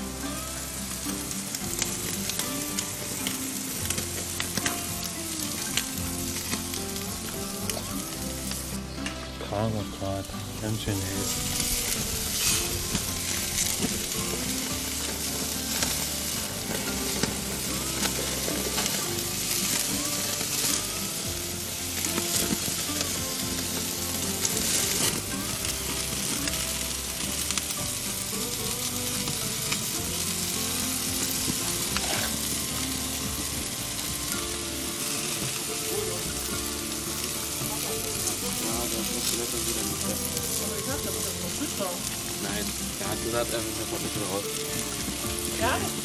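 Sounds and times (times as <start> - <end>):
steaks sizzling on grill: 0.0 - 46.0.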